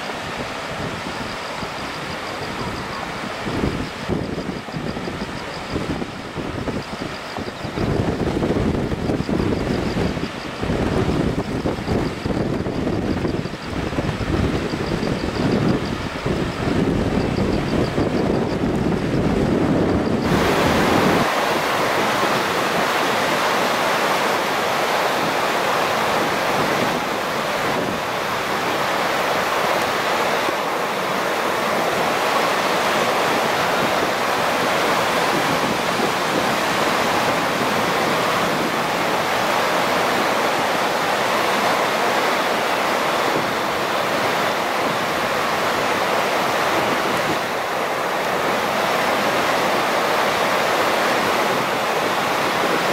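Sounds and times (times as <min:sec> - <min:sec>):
river rushing: 0:00.0 - 0:52.9
train rumbling on a bridge: 0:00.0 - 0:52.9.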